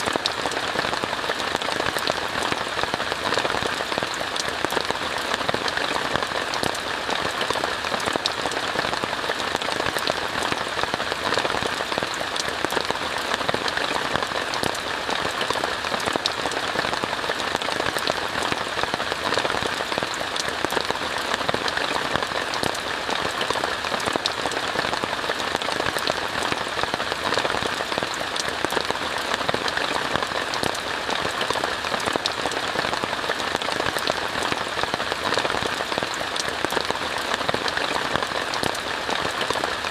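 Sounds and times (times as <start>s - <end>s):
rain on a tent: 0.0s - 39.9s.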